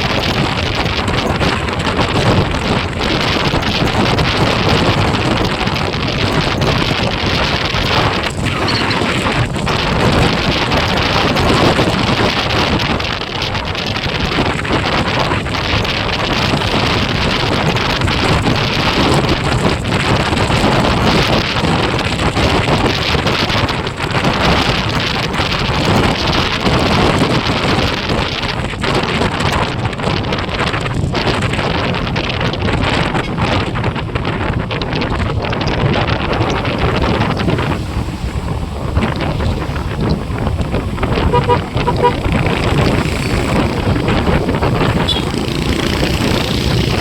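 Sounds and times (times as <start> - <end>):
wind roaring over microphone: 0.0 - 47.0.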